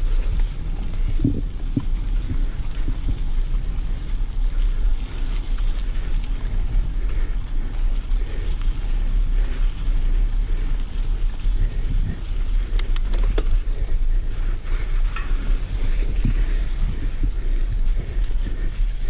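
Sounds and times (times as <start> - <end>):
bike tyres rolling on dirt trail: 0.0 - 19.0
wind buffeting microphone: 0.0 - 19.0.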